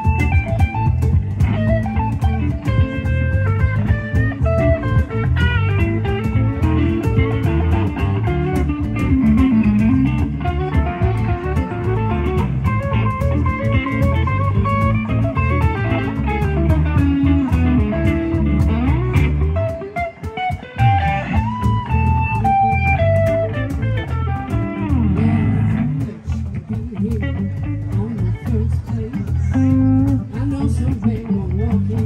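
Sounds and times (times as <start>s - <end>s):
bass guitar: 0.0s - 32.0s
drum kit: 0.0s - 32.0s
electric guitar lead: 0.0s - 32.0s.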